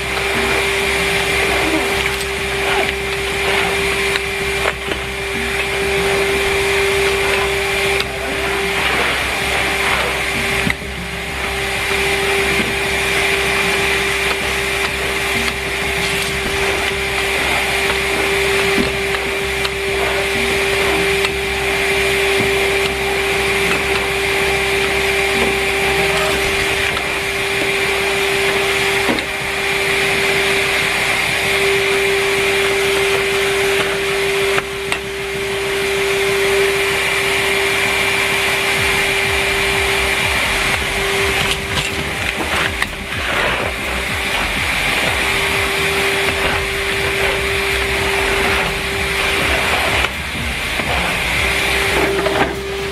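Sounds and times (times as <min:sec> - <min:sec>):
vacuum cleaner motor running: 0:00.0 - 0:52.9.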